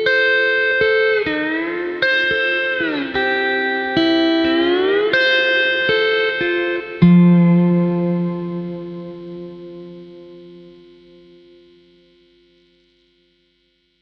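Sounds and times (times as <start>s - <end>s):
slide guitar: 0.0s - 12.0s.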